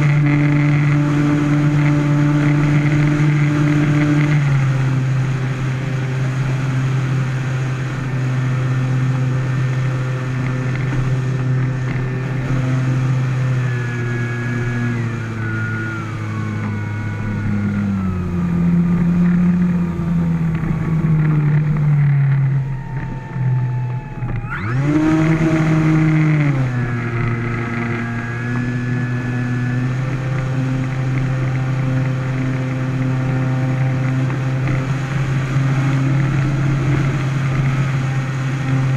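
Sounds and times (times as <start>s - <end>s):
model plane electric motor whine: 0.0s - 38.9s.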